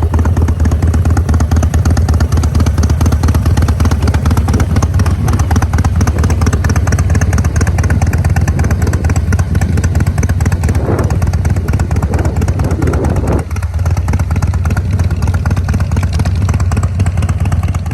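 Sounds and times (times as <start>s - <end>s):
motorcycle engine exhaust pulsing: 0.0s - 17.9s.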